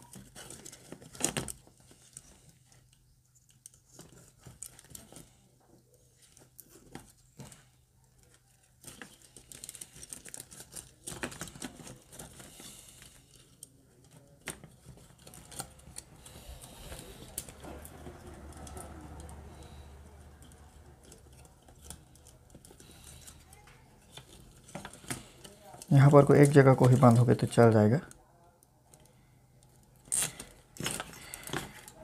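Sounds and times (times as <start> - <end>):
faint plastic rustling and clicking: 0.0 - 32.0.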